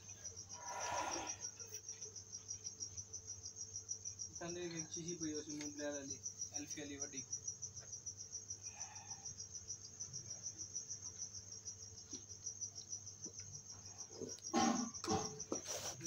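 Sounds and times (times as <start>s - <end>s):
cricket chirping trill: 0.0s - 16.0s.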